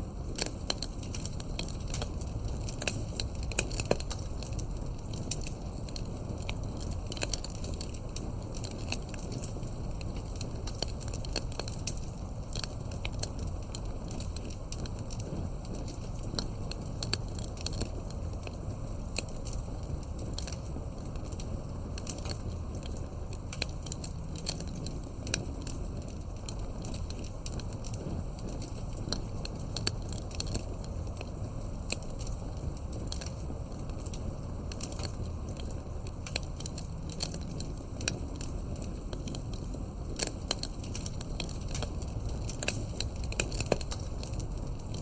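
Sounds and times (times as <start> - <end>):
burning wood crackles and pops: 0.0 - 45.0
campfire flame rumbling: 0.0 - 45.0.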